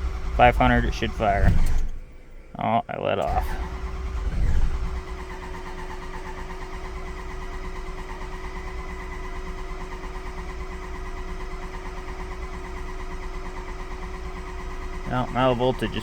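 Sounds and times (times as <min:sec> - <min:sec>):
diesel engine cranking on starter: 0:00.0 - 0:02.6, 0:03.2 - 0:16.0.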